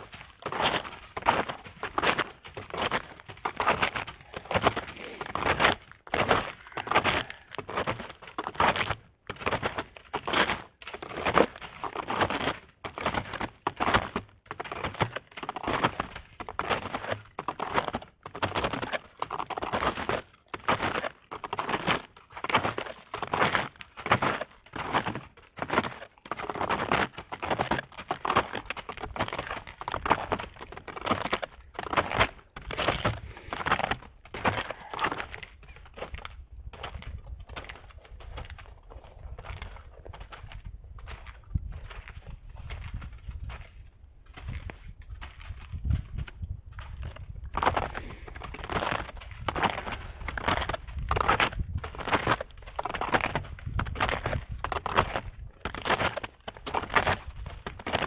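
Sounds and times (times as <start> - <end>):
footsteps crunching in snow: 0.0 - 58.0.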